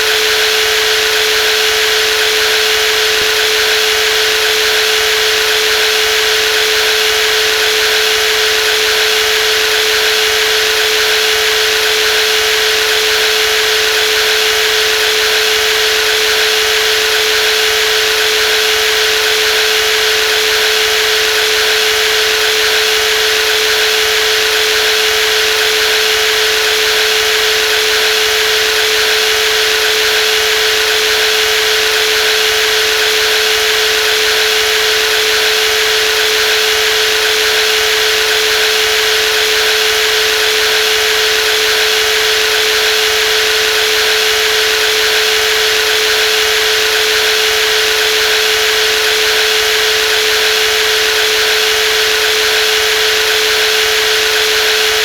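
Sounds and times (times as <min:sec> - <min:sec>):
jigsaw running: 0:00.0 - 0:55.0.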